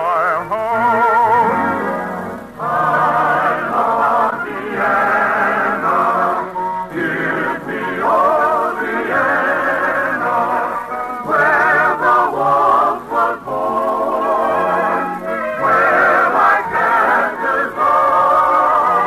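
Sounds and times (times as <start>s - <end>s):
orchestral waltz with singing: 0.0s - 19.0s.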